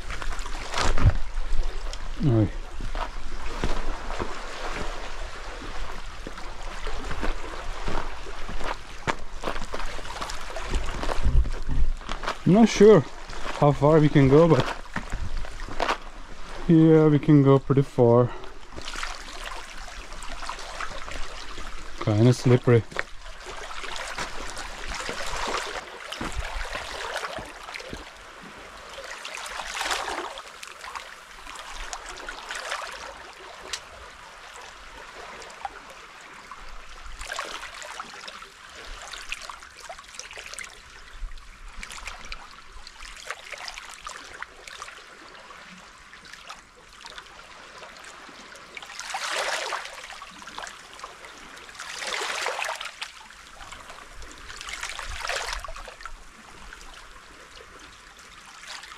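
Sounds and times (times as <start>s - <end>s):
waves lapping over rocks: 0.0s - 58.9s.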